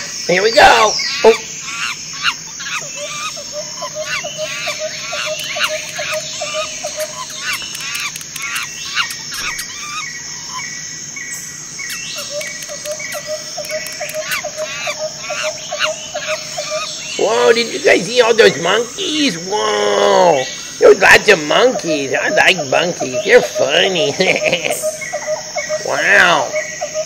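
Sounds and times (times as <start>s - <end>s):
fast repeated short calls: 0.0s - 10.5s, 11.6s - 25.0s
bird and animal calls: 0.0s - 27.0s.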